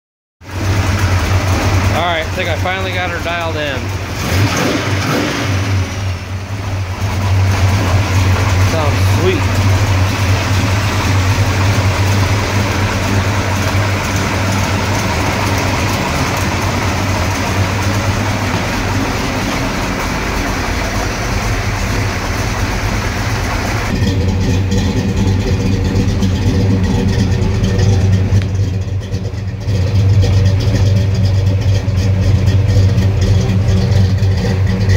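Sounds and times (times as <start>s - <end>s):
engine idling with deep rumble: 0.4s - 34.9s.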